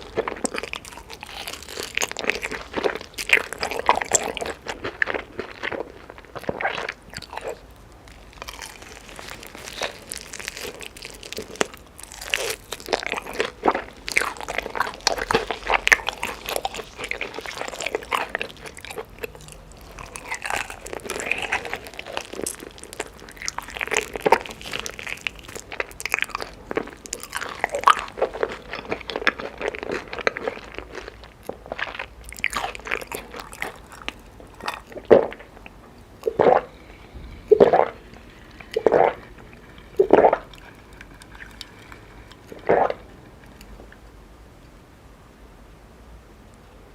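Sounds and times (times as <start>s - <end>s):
person chewing with wet smacks: 0.0s - 44.0s.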